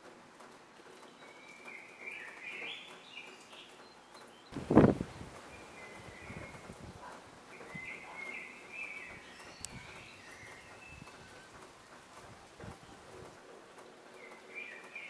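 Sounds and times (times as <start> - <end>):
soft outdoor background noise: 0.0 - 15.0
small birds chirping: 0.9 - 13.4, 14.1 - 15.0.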